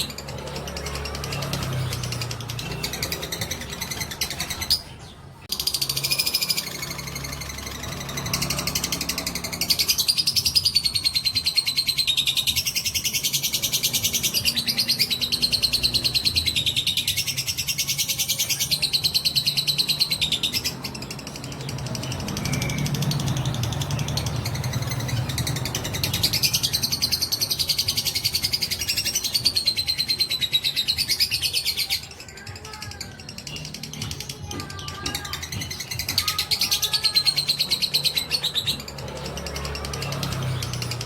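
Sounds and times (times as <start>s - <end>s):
bird chattering trill: 0.0s - 41.0s.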